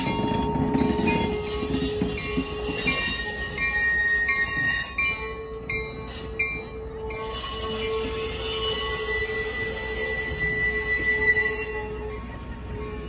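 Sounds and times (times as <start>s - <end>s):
train cars rolling past: 0.0s - 13.0s
train wheels squealing on rails: 0.0s - 13.0s.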